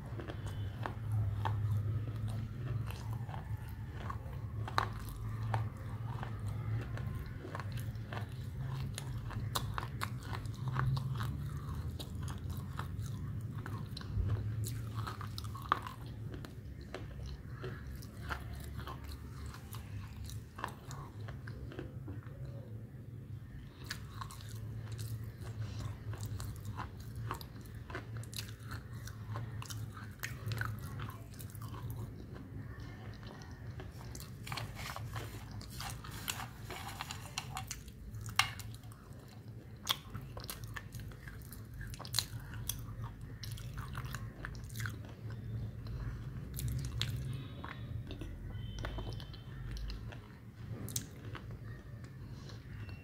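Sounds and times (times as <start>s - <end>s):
person chewing crunchy clay: 0.0s - 53.0s.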